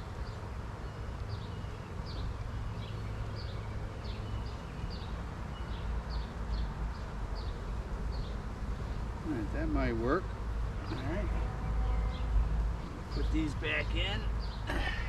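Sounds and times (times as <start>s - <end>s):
bees buzzing: 0.0s - 15.0s
bird chirping: 0.0s - 15.0s.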